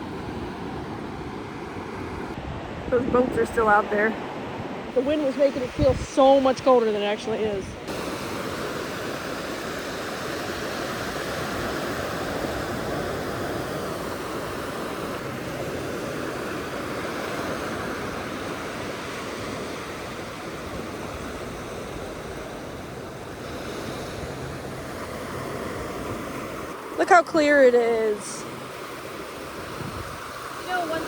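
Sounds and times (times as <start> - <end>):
ocean waves breaking: 0.0 - 31.0.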